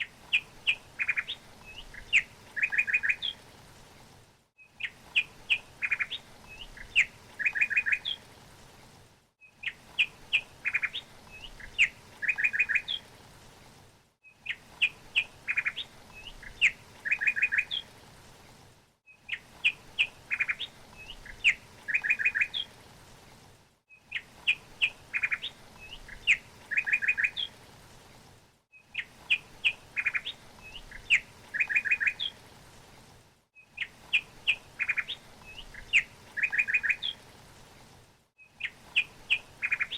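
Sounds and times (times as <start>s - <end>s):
songbird chirps and trills: 0.0s - 3.7s, 4.6s - 8.4s, 9.4s - 13.2s, 14.2s - 18.0s, 19.1s - 22.9s, 23.9s - 28.0s, 28.7s - 32.6s, 33.6s - 37.5s, 38.4s - 39.9s.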